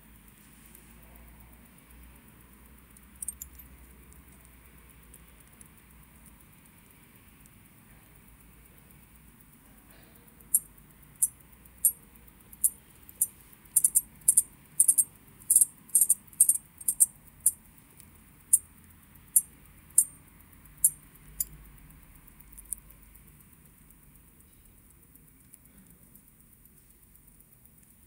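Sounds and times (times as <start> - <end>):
watch crown clicking: 1.2 - 28.0.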